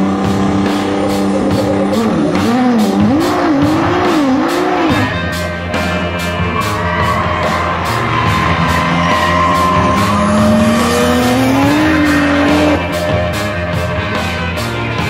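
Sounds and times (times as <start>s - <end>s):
background music with steady beat: 0.0s - 15.0s
race car engines: 0.0s - 15.0s.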